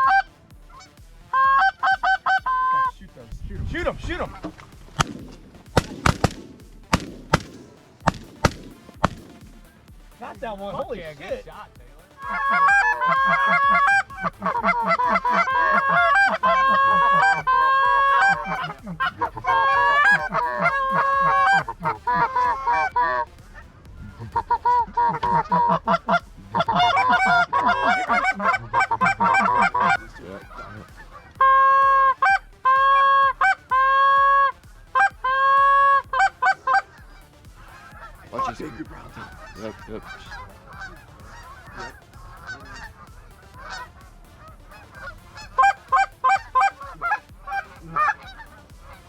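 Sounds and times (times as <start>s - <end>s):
canada goose honks: 0.0s - 9.4s, 12.2s - 49.0s.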